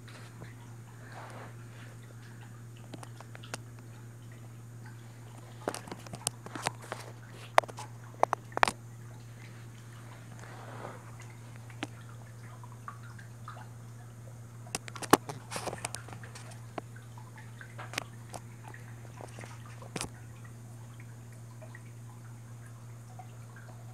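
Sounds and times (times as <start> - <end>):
aquarium equipment hum: 0.0 - 23.9
water dripping: 2.0 - 10.4, 11.1 - 23.9.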